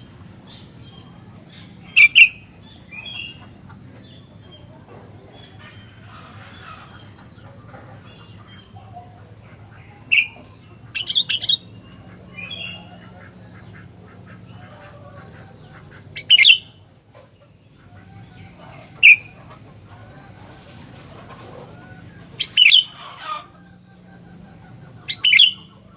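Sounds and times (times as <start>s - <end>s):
bulbul sharp calls: 0.0s - 25.9s
steady low hum: 0.0s - 25.9s.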